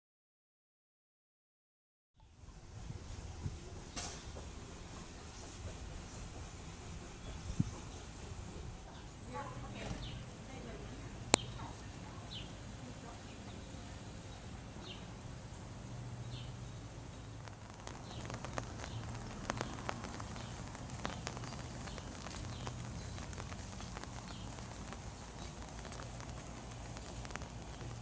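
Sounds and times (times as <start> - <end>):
steady low hum: 2.2 - 28.0.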